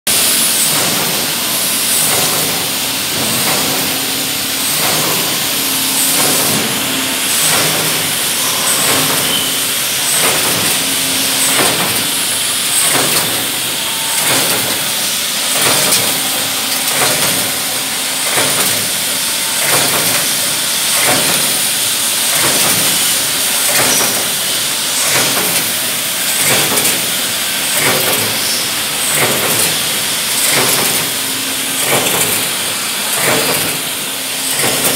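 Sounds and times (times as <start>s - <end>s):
machine hissing: 0.1s - 34.9s
machine knocking: 0.1s - 34.9s.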